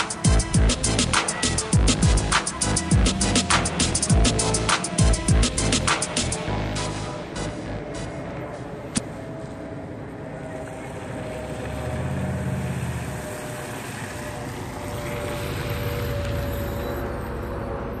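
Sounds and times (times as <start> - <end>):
car engine hum: 0.0 - 18.0
tyre and road noise: 0.0 - 18.0.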